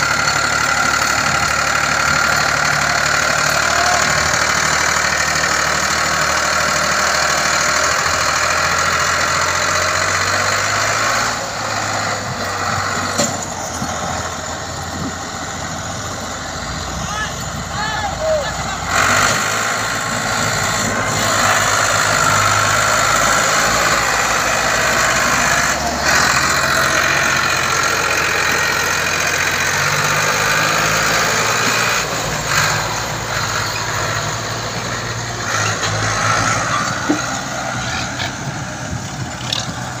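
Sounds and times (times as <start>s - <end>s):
tractor engine running under load: 0.0s - 40.0s
trailer rolling by: 0.0s - 40.0s.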